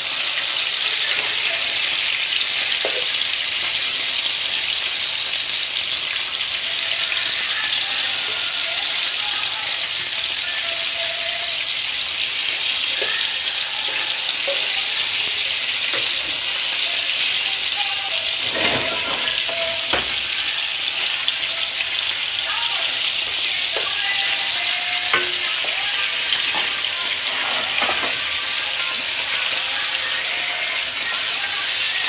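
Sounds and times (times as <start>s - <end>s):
fish sizzling in oil: 0.0s - 32.0s.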